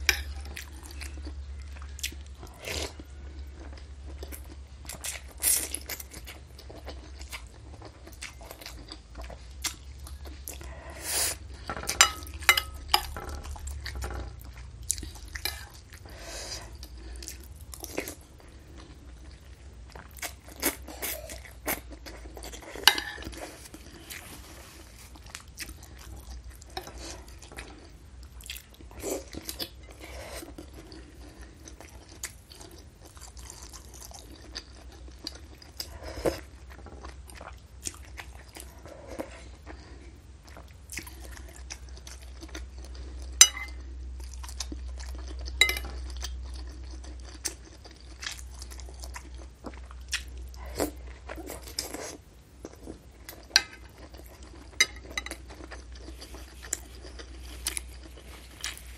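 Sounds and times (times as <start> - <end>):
wet chewing: 0.0 - 58.9.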